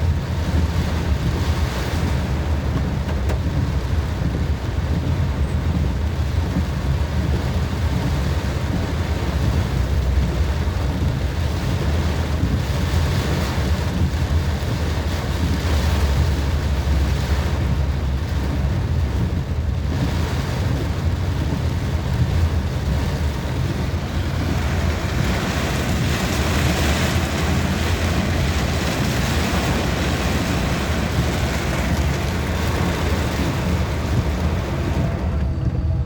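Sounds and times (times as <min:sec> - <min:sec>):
deep rumble: 0:00.0 - 0:36.0
motorcycle road noise in rain: 0:00.0 - 0:36.0
wind rushing over microphone: 0:00.0 - 0:36.0.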